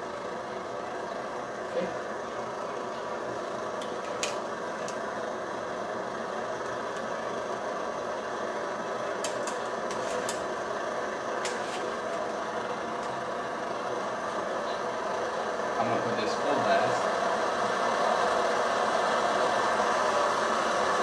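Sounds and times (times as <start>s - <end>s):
stove burner rushing hiss: 0.0s - 21.0s.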